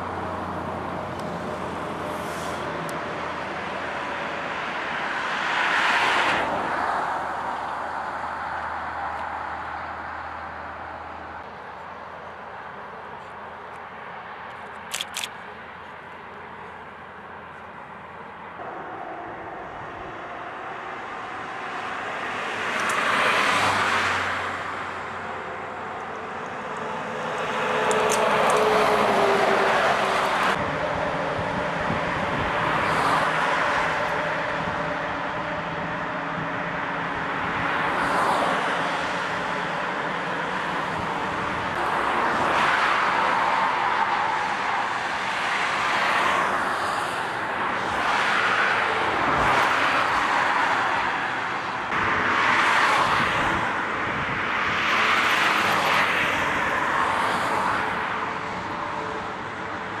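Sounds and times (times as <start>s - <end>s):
highway traffic passing: 0.0s - 60.0s.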